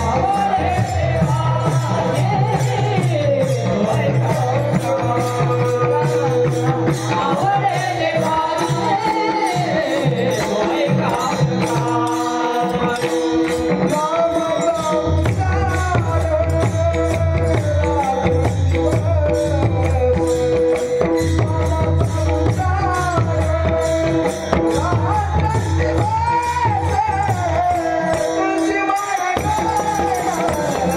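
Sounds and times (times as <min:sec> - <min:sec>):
jingling hand percussion: 0:00.0 - 0:30.9
person singing devotional song: 0:00.0 - 0:30.9.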